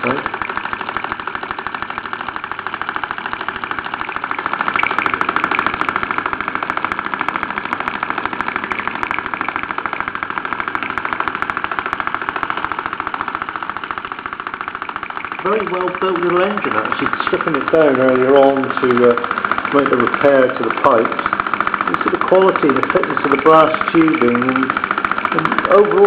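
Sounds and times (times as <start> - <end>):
toy steam engine puffing: 0.0 - 26.0.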